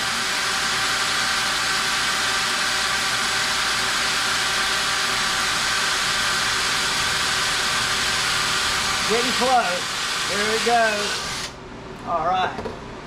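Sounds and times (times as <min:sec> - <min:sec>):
cordless drill drilling metal: 0:00.0 - 0:11.6.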